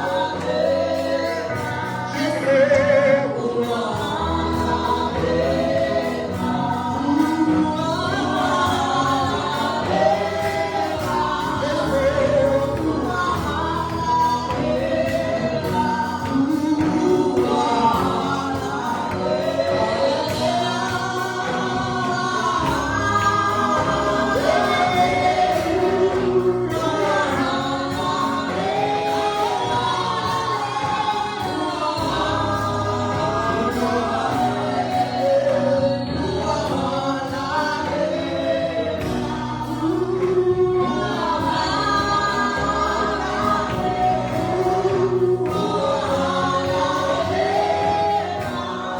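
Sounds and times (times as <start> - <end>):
congregation singing a worship song: 0.0 - 48.9
low musical accompaniment: 0.0 - 48.9.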